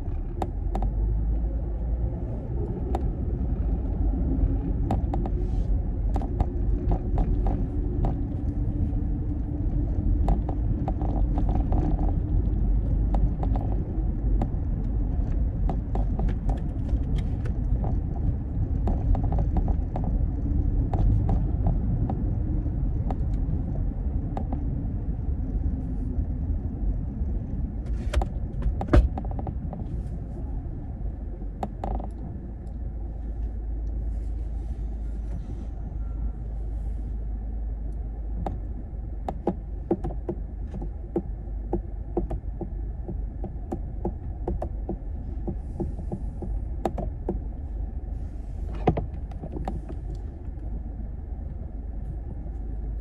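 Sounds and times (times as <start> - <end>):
car cabin road rumble: 0.0 - 53.0
light clicks and rustles: 2.6 - 37.2, 37.8 - 53.0.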